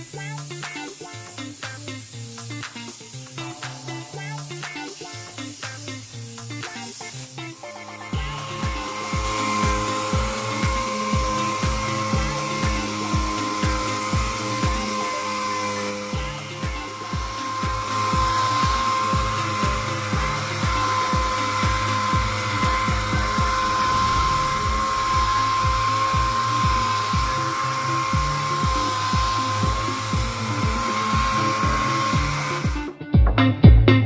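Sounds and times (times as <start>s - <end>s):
spray gun air hissing: 0.0s - 33.0s
music with steady beat: 0.0s - 34.0s.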